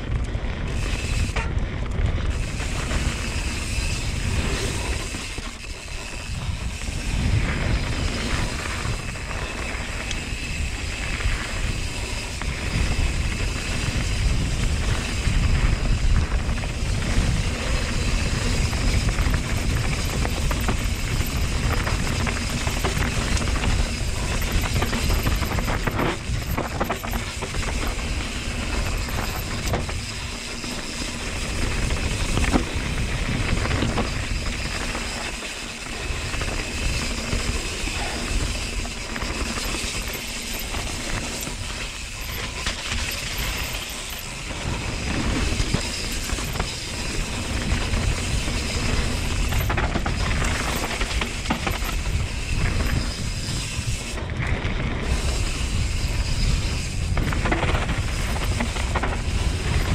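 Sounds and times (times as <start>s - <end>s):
bike rattling: 0.0s - 59.9s
wind buffeting microphone: 0.0s - 59.9s.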